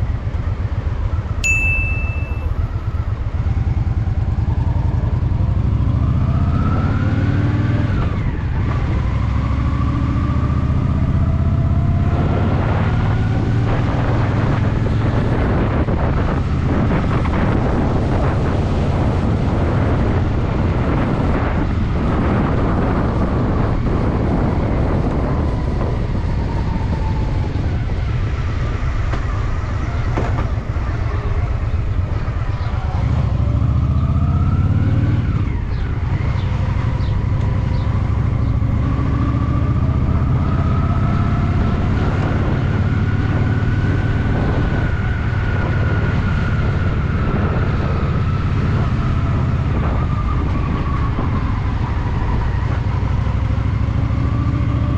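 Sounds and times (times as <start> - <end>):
motorcycle engine running: 0.0 - 25.9, 27.1 - 51.4
wind on microphone: 0.0 - 54.9.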